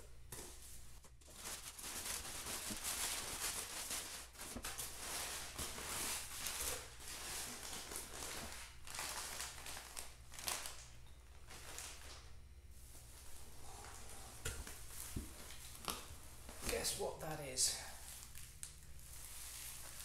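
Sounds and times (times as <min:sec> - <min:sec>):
packing paper rustling and crinkling: 0:00.4 - 0:20.0.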